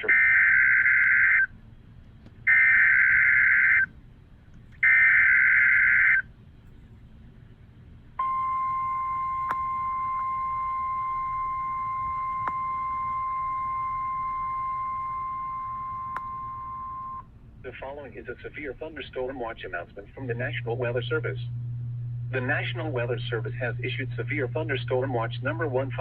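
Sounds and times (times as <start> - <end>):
steady warning alarm tone: 0.0 - 1.5, 2.5 - 3.9, 4.8 - 6.3, 8.2 - 17.3, 18.4 - 26.0.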